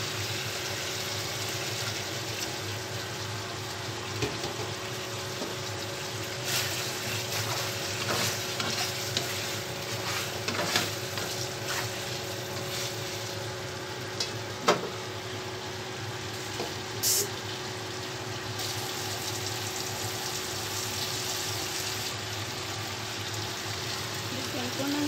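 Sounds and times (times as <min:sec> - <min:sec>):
chicken and potatoes sizzling: 0:00.0 - 0:25.0.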